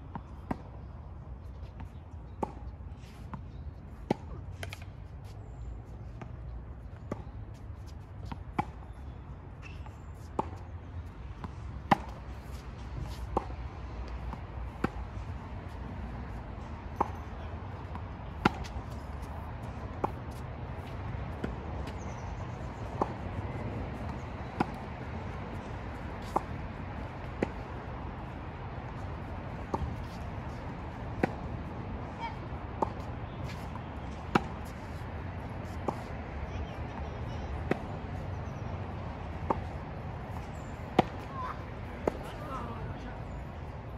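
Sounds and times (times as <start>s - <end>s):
tennis balls bouncing on court: 0.0s - 43.9s
tennis balls struck by rackets: 1.8s - 5.4s, 7.0s - 36.1s, 37.5s - 43.0s.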